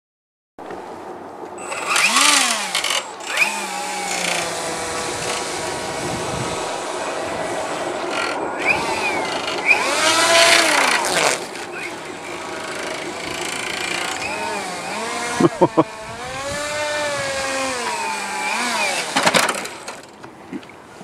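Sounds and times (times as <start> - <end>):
electric motor and propeller whining: 1.6 - 20.3.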